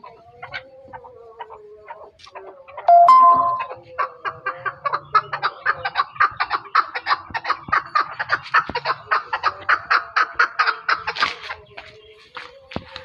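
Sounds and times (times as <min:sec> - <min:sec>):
partridge clucking calls: 0:02.3 - 0:13.0.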